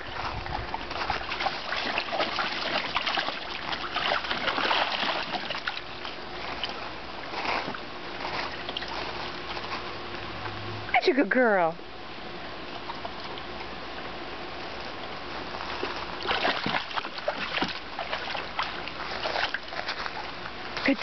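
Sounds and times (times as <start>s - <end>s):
water splashing in a pool: 0.0s - 9.7s, 12.6s - 13.8s, 14.6s - 21.0s.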